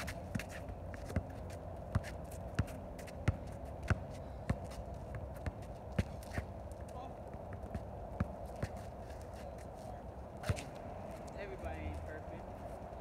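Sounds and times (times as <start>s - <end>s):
basketball bouncing on asphalt: 0.0s - 9.6s, 10.3s - 12.1s
footsteps shuffling on pavement: 0.0s - 13.0s.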